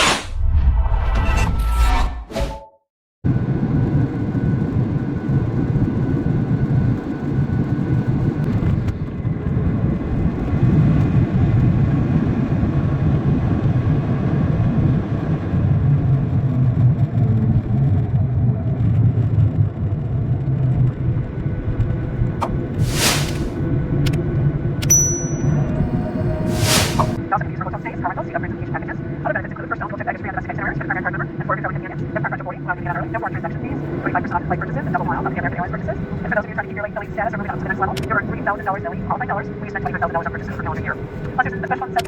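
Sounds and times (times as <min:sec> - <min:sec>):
aircraft engines and wheels rumbling: 0:03.3 - 0:42.0.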